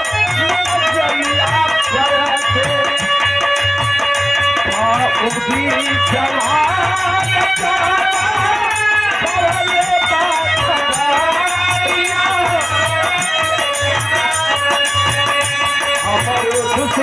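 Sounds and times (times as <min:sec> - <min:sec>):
jingling rattle percussion: 0:00.0 - 0:17.0
steady drum beat: 0:00.0 - 0:17.0.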